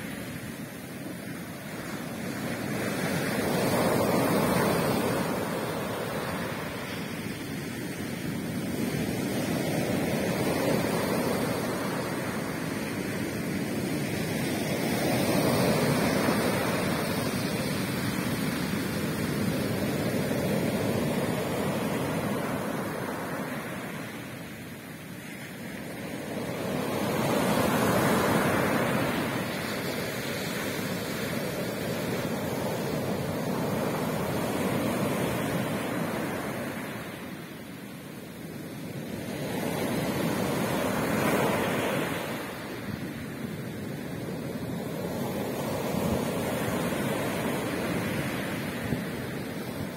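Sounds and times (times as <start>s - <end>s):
sea waves breaking on beach: 0.0s - 49.9s.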